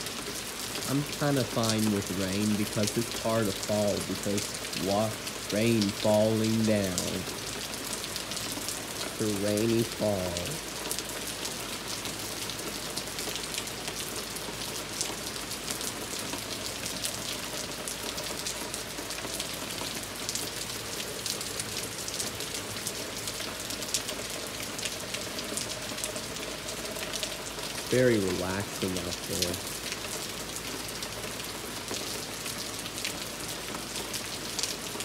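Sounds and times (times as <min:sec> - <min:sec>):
rain on wooden deck: 0:00.0 - 0:35.0.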